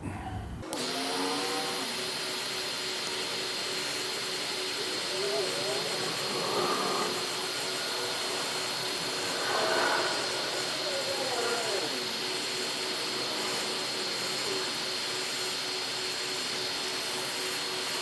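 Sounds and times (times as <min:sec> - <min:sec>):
hot-air blower whining: 0:00.6 - 0:18.0.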